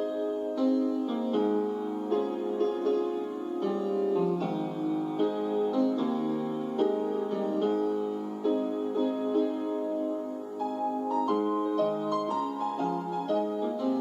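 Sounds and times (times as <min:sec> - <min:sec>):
gentle piano piece: 0:00.0 - 0:14.0.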